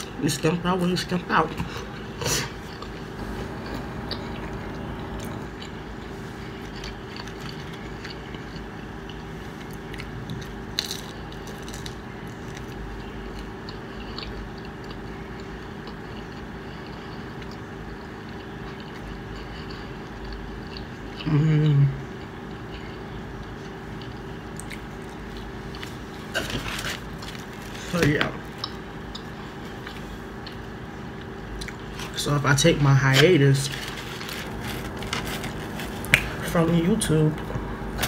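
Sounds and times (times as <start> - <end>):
background hum: 0.0 - 38.0
person chewing: 0.9 - 36.6.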